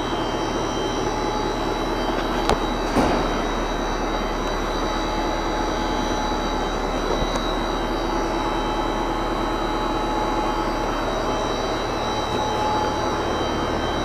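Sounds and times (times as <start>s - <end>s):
high whines: 0.0s - 14.0s
pump mechanical hum: 0.0s - 14.0s.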